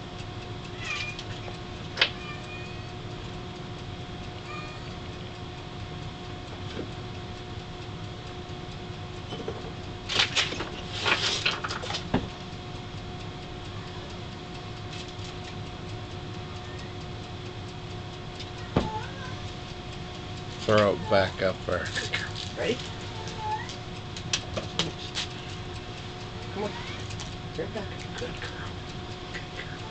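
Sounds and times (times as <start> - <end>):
electrical hum: 0.0 - 29.9.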